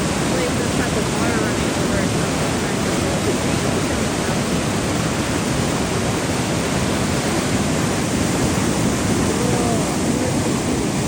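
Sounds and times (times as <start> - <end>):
water rushing over rock: 0.0 - 11.0.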